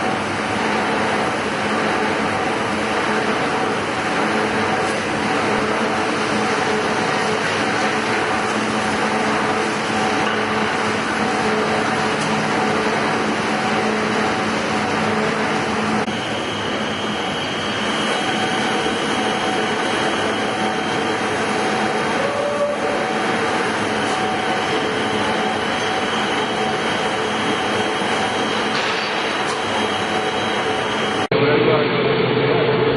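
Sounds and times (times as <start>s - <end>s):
lathe humming: 0.0s - 31.3s
high thin whine: 0.0s - 32.9s.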